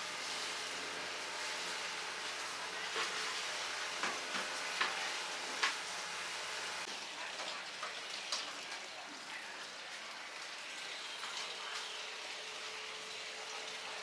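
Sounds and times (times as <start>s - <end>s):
chicken sizzling on a grill: 0.0s - 14.0s.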